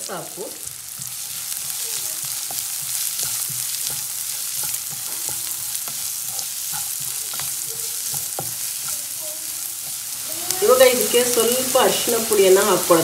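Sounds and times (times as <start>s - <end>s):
onions sizzling in hot oil: 0.0s - 13.0s
wooden spatula scraping a pan: 0.6s - 12.0s.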